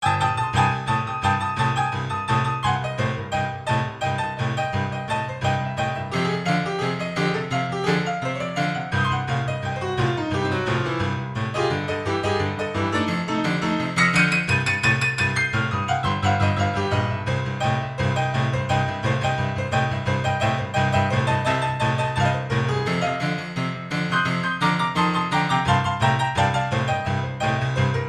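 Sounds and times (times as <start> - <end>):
fast run of notes: 0.0 - 28.0.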